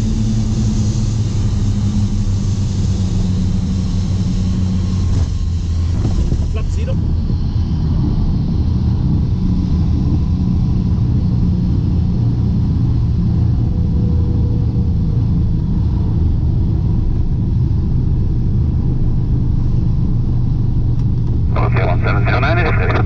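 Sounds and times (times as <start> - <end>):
aircraft engines droning: 0.0 - 23.0.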